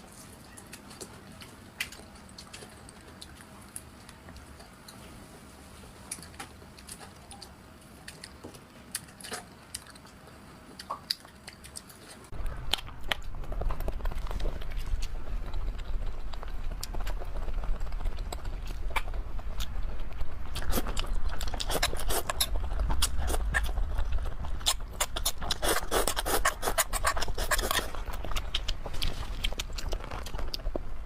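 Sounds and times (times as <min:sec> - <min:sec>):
biting and chewing crunches: 0:00.0 - 0:05.0, 0:06.1 - 0:31.0.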